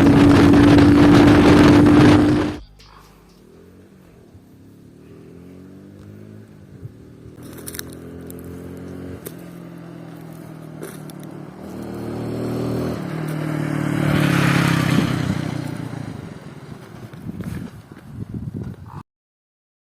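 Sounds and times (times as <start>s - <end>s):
loud moped engine revving: 0.0s - 16.8s.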